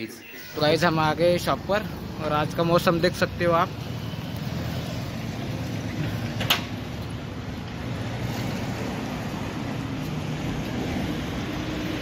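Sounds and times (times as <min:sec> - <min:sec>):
vehicle engines humming: 0:00.0 - 0:12.0.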